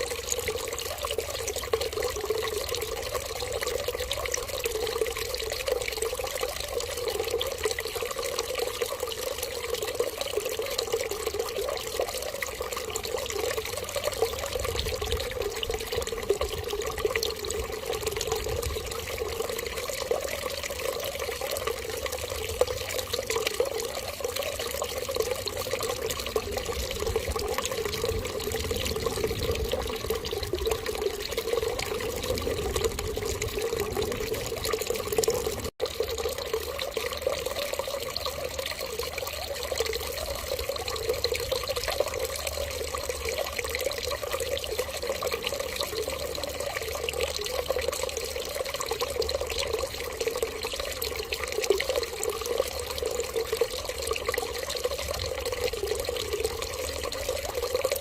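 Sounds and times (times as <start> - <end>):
water pouring steadily: 0.0 - 58.0.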